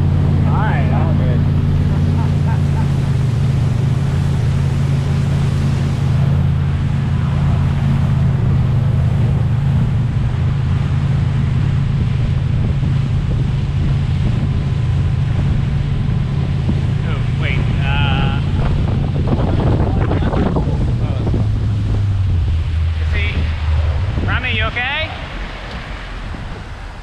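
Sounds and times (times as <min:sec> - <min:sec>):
motorboat engine running: 0:00.0 - 0:27.0
wind and water rushing: 0:00.0 - 0:27.0.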